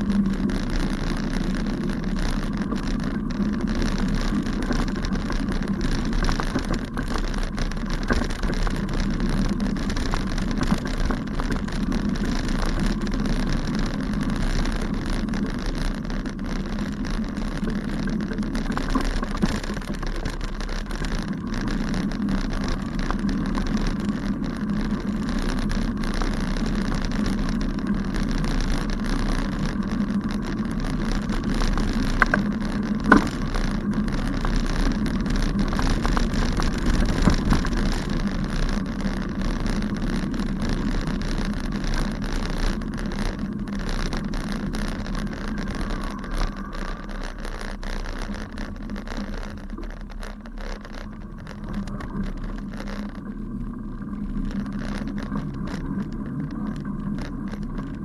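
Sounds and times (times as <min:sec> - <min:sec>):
bicycle tyres rumbling and rattling: 0:00.0 - 0:58.0.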